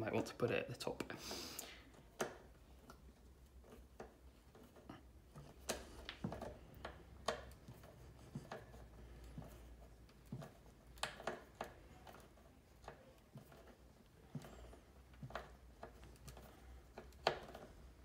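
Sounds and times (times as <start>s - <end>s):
wooden parts clicking and tapping: 1.9s - 18.0s.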